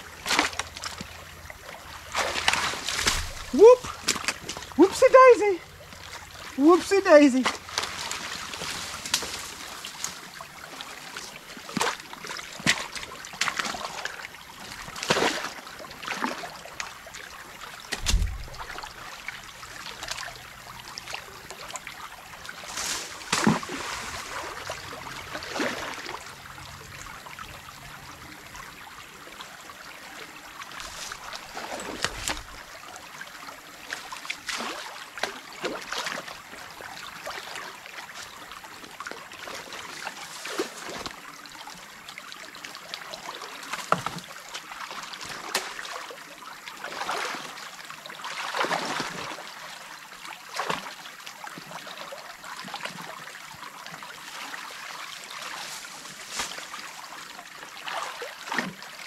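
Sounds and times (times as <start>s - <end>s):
water splashing and sloshing: 0.0s - 59.0s
water trickling and flowing: 0.0s - 59.0s.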